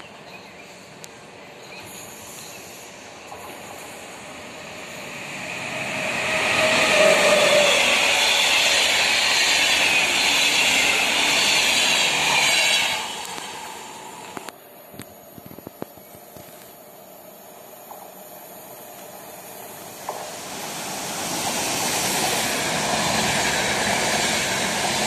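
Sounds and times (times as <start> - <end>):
passenger train passing: 0.0 - 15.4, 16.0 - 25.0.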